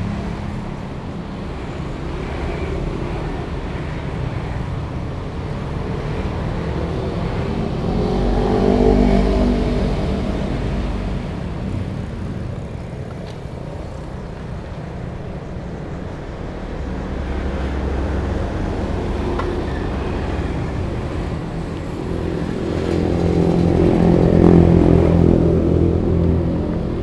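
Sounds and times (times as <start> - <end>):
road traffic engine hum: 0.0 - 27.0.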